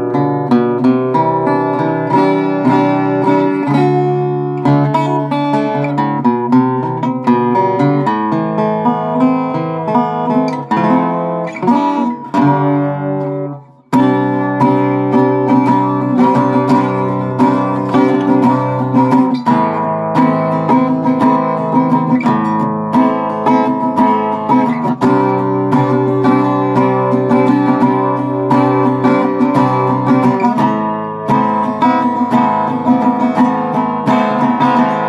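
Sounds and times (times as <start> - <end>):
acoustic guitar fingerstyle: 0.0 - 35.0.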